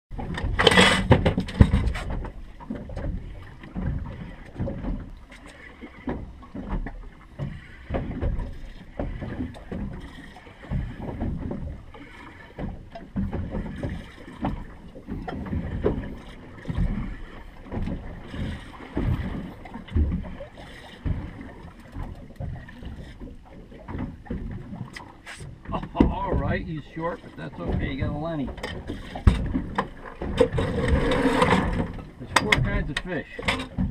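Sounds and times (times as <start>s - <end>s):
water slapping against hull: 0.1s - 33.9s.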